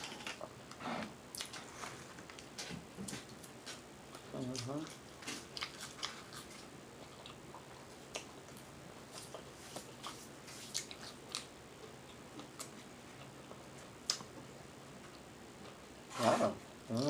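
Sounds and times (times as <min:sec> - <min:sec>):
person chewing food: 0:00.7 - 0:15.9.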